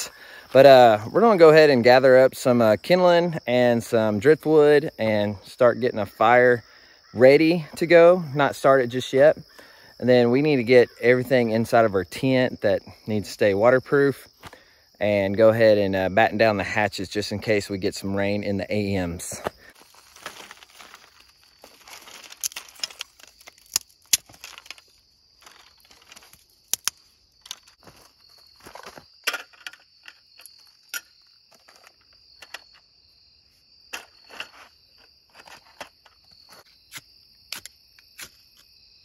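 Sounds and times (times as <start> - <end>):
high insect trill: 0.0 - 39.0.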